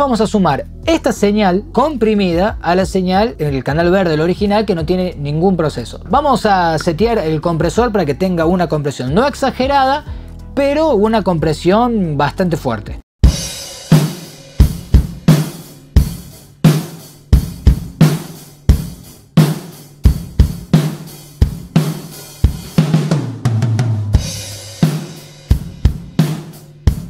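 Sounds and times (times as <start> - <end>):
drum kit groove: 0.0 - 10.3, 13.2 - 27.0.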